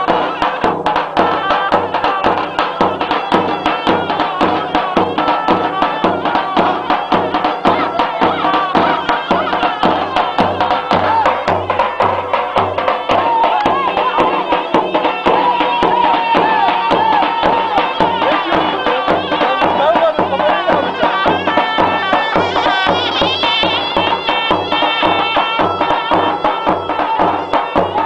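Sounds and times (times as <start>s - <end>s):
fast drum beat: 0.0s - 28.0s.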